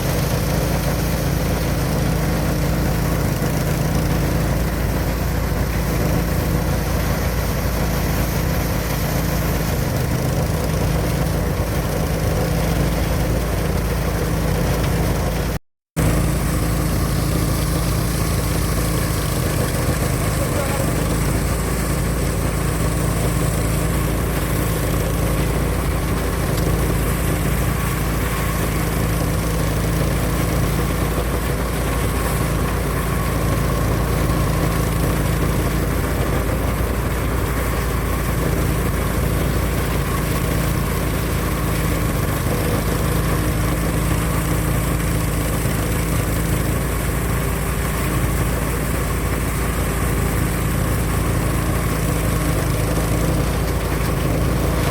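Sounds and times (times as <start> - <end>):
threshing machine engine running: 0.0 - 54.9.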